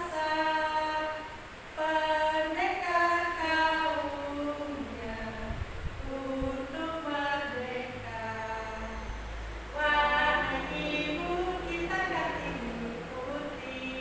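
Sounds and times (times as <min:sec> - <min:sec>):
group singing unaccompanied: 0:00.0 - 0:14.0.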